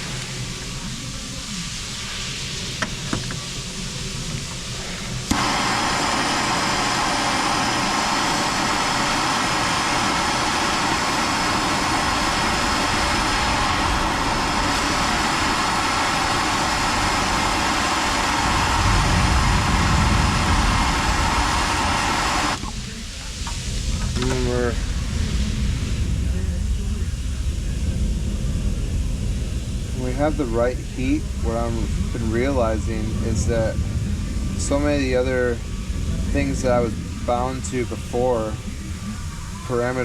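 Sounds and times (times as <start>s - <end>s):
welding torch hissing: 0.0s - 40.0s.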